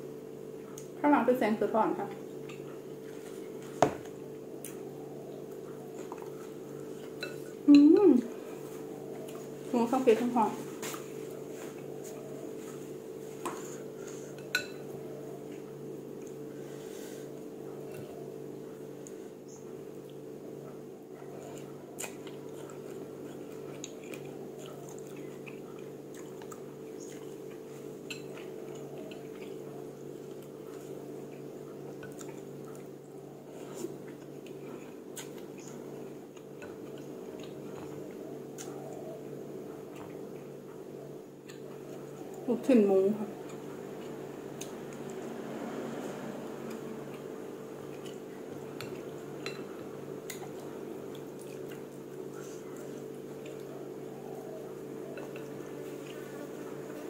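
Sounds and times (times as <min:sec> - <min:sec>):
steady low hum: 0:00.0 - 0:57.0
chewing: 0:02.3 - 0:09.7, 0:10.7 - 0:42.5, 0:43.3 - 0:57.0.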